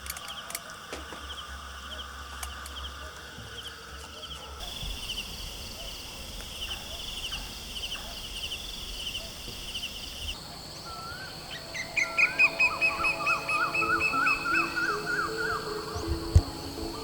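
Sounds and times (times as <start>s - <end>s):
birds whistling: 0.0s - 17.0s
insects chirping: 0.0s - 17.0s.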